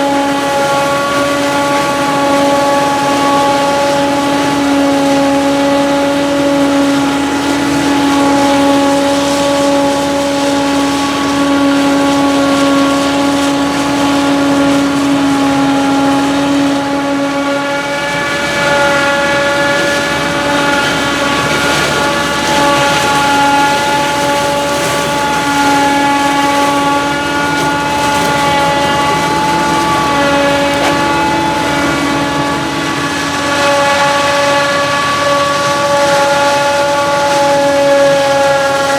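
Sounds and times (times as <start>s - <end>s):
constant whining hum: 0.0s - 38.9s
heavy diesel machinery running: 0.0s - 38.9s.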